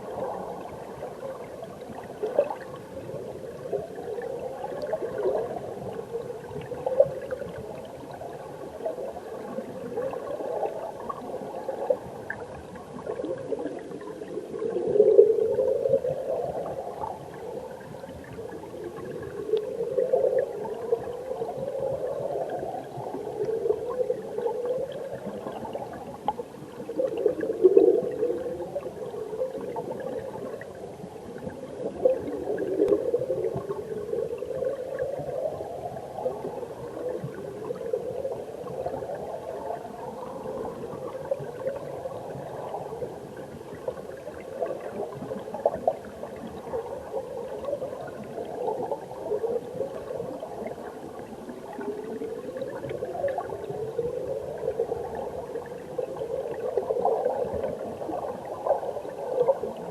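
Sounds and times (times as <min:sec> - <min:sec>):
underwater stream gurgling: 0:00.0 - 0:59.9.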